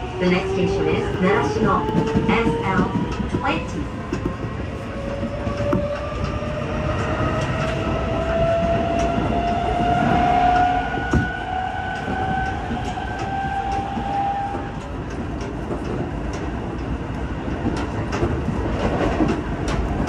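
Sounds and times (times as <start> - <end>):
train clicks and jolt: 0.0 - 20.0
train wheels rumbling on rail: 0.0 - 20.0.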